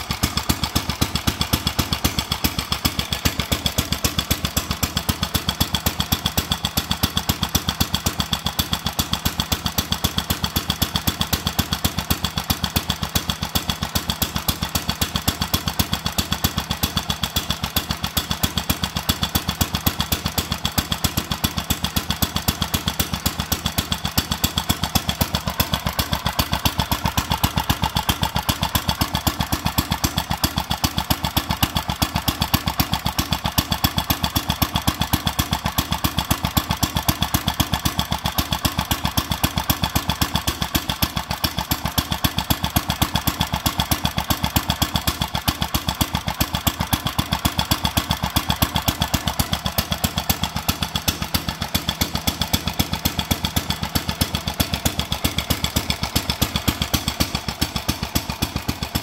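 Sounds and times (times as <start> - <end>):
single-cylinder engine running: 0.0 - 59.0.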